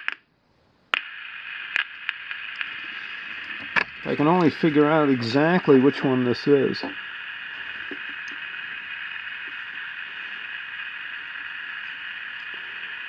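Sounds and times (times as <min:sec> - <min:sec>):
radio static hiss: 0:00.0 - 0:00.3, 0:00.9 - 0:13.0.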